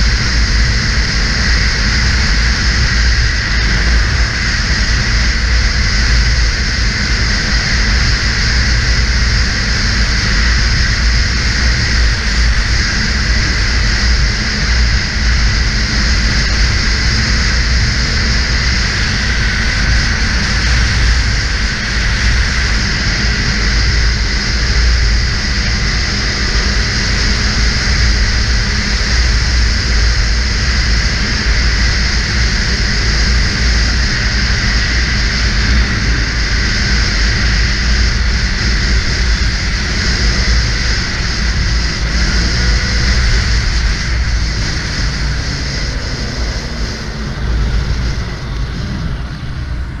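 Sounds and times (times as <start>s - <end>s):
snowmobile engine running: 0.0s - 50.0s
wind noise on microphone: 0.0s - 50.0s.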